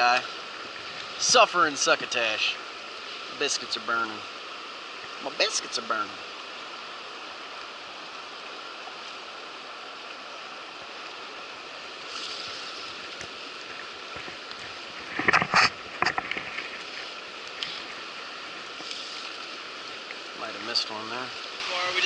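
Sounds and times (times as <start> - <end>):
river rapids rushing: 0.0 - 22.0.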